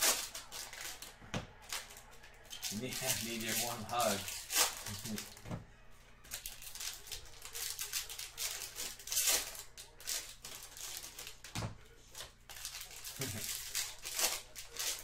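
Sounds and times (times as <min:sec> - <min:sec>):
foil wrappers and cards crinkling: 0:00.0 - 0:05.4, 0:06.2 - 0:15.0.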